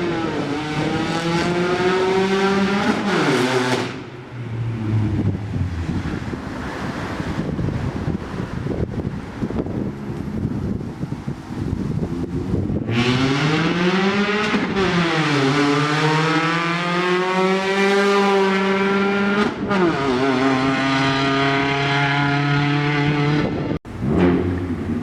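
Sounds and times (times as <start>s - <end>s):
rally car engine accelerating: 0.0s - 7.5s, 12.0s - 25.0s.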